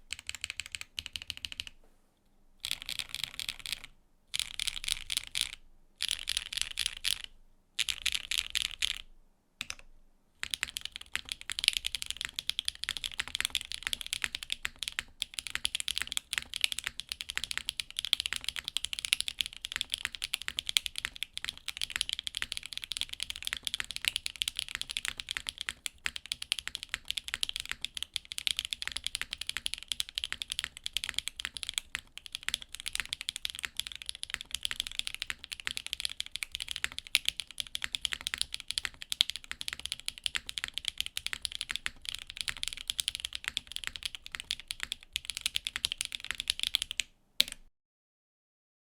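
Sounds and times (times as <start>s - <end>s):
typing on mechanical keyboard: 0.1s - 1.8s, 2.6s - 9.0s, 9.6s - 9.8s, 10.4s - 47.7s.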